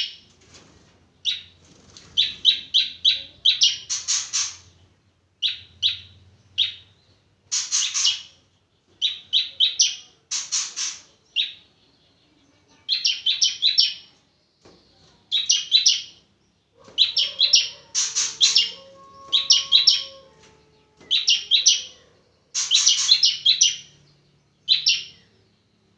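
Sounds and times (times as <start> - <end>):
bird chirping in sharp bursts: 1.2 - 12.1, 12.9 - 14.2, 14.9 - 25.6.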